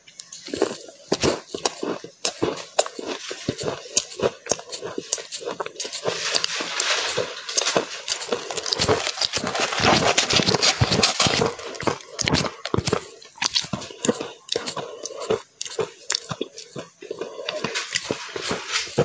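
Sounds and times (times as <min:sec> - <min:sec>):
crunching and chewing ice: 0:00.0 - 0:19.0.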